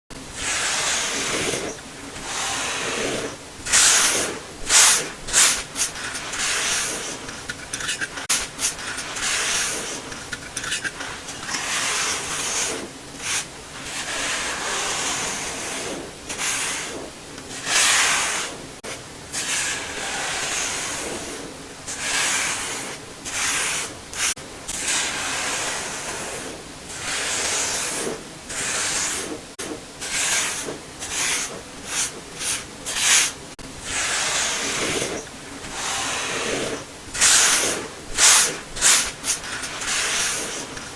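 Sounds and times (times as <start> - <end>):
brush sweeping through powder: 0.4 - 7.4, 8.2 - 10.2, 11.1 - 29.4, 30.0 - 40.9.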